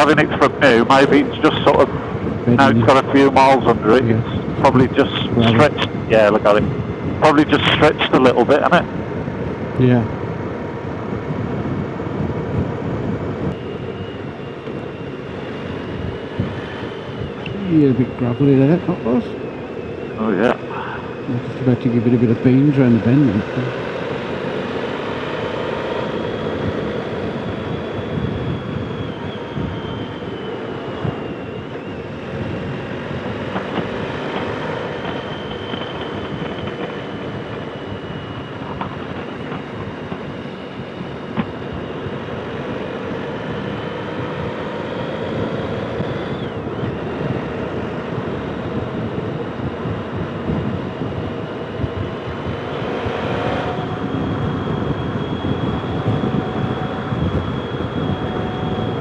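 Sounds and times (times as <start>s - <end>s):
wind rush: 0.0s - 23.0s, 24.2s - 59.0s
motorcycle engine running: 0.0s - 59.0s.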